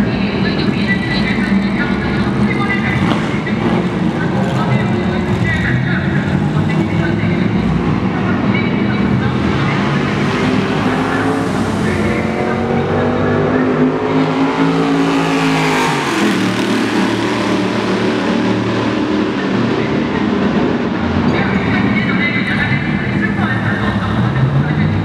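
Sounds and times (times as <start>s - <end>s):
stock car engine at full throttle: 0.0s - 25.0s.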